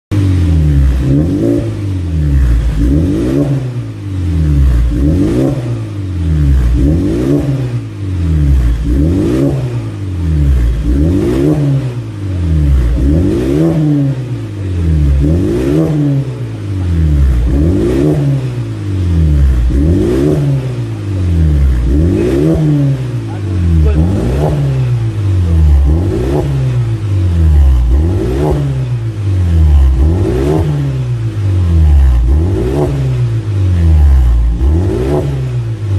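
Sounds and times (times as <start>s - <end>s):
car engine revving: 0.1s - 35.9s.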